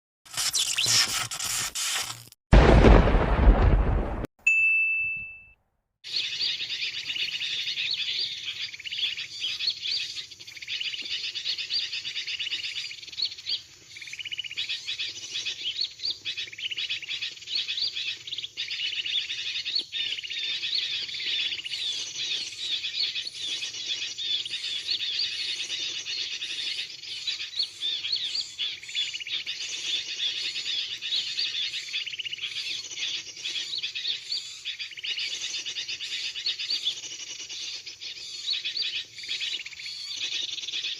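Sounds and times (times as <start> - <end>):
small birds calling: 6.1 - 40.9.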